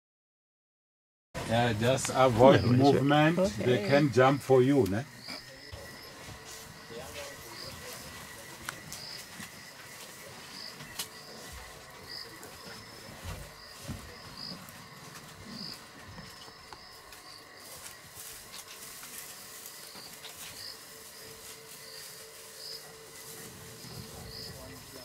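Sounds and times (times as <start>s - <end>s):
faint steady tones: 1.5s - 25.0s
insect chirping: 1.5s - 25.0s.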